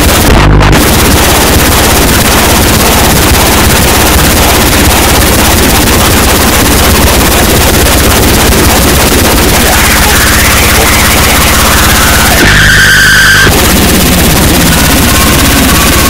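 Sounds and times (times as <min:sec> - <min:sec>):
fast stuttering low pulse: 0:00.0 - 0:16.0
harsh distorted noise: 0:00.0 - 0:16.0.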